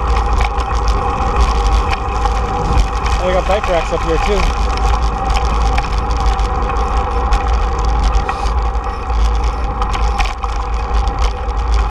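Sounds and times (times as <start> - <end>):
bike rolling on pavement: 0.0 - 11.9
small clicks and rattles: 0.0 - 11.9
wind buffeting microphone: 0.0 - 11.9.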